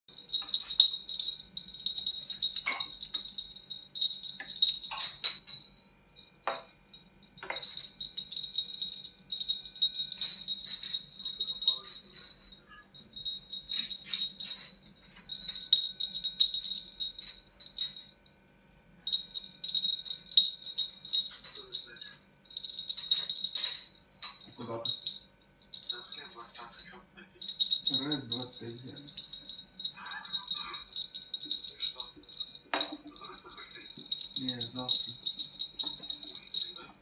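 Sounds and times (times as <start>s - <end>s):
small bell jingling: 0.1s - 18.4s, 19.0s - 37.0s.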